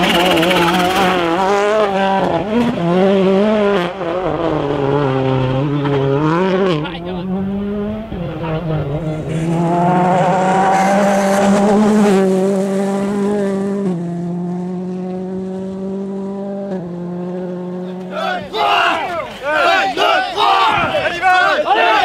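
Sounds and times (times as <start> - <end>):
rally car engine revving high: 0.0 - 19.0.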